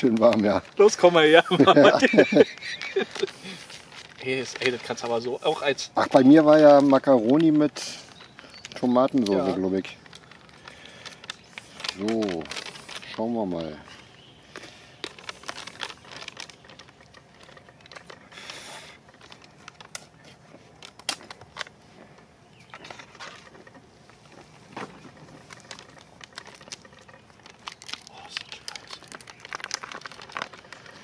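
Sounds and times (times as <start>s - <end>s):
food pouch packaging crinkling: 0.0s - 21.8s, 22.7s - 31.0s.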